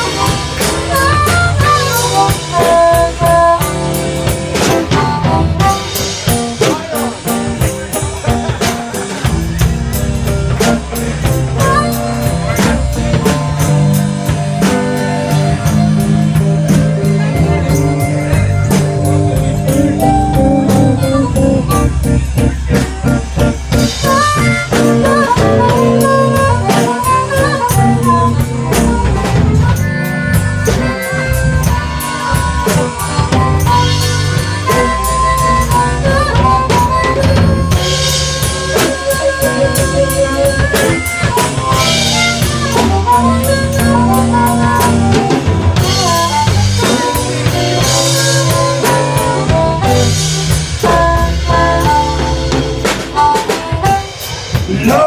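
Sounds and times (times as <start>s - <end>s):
harmonica: 0.0s - 55.0s
live blues band: 0.0s - 55.0s.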